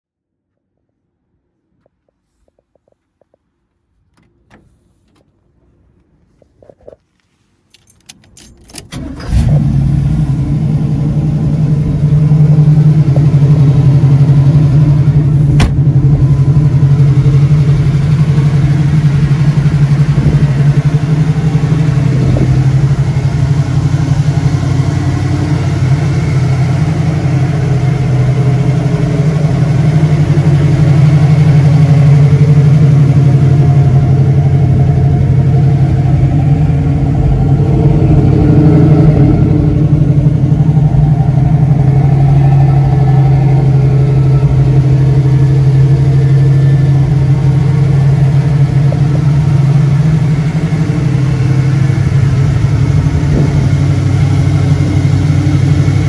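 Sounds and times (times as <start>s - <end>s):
car engine starting and idling: 0.6s - 56.0s.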